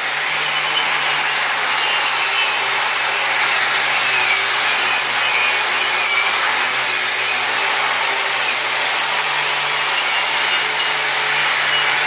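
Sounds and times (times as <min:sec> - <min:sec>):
power grinder grinding metal: 0:00.0 - 0:12.0.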